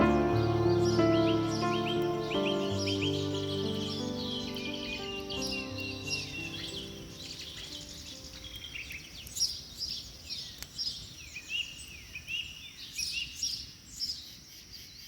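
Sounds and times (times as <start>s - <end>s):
faint low background noise: 0.0s - 15.0s
songbirds chirping and singing: 0.0s - 15.0s.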